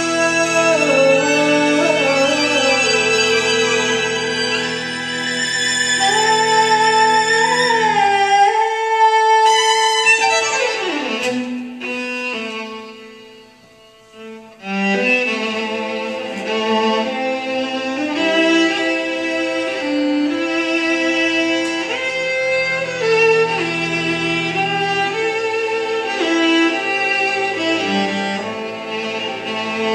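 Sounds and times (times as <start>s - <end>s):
solo violin fiddle tune: 0.0s - 29.9s
string ensemble: 0.0s - 29.9s.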